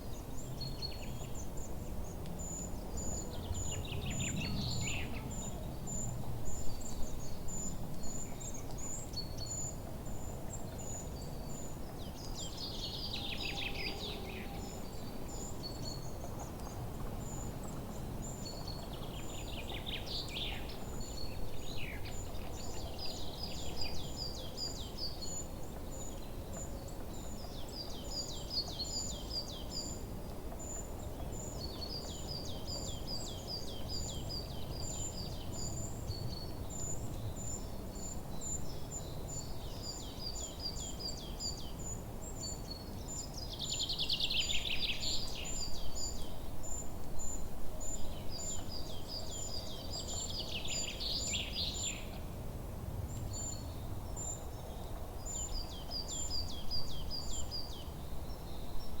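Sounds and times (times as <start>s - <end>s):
forest birds singing: 0.0s - 52.4s, 53.0s - 59.0s.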